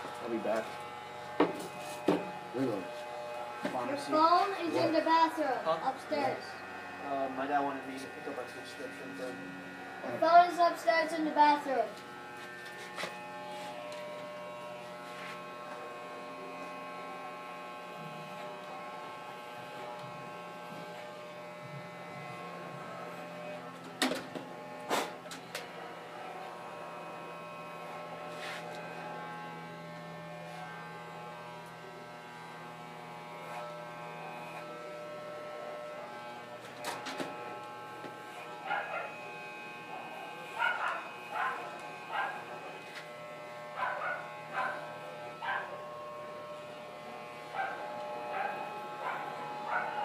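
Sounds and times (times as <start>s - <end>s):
electric hair clippers buzzing: 0.0s - 50.0s.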